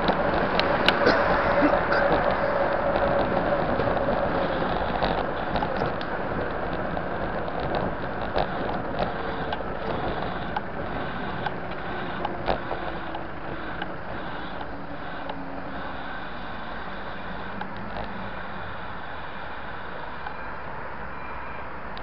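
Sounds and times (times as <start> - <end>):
bicycle clicking and rattling: 0.0 - 20.4
cars passing: 0.0 - 22.0
wind and road noise: 0.0 - 22.0.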